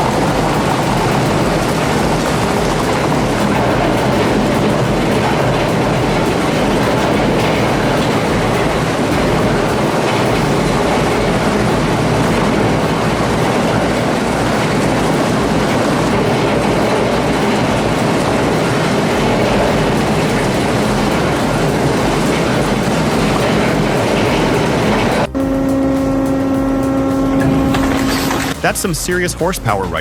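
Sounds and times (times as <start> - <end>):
industrial shredder grinding: 0.0 - 28.7.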